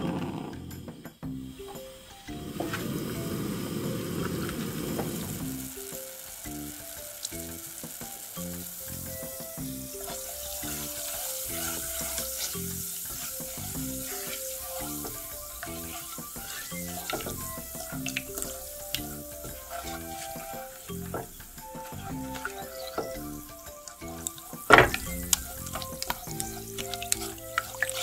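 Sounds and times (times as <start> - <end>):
liquid bubbling and hissing in pot: 0.0 - 28.0
soft instrumental melody: 1.1 - 28.0.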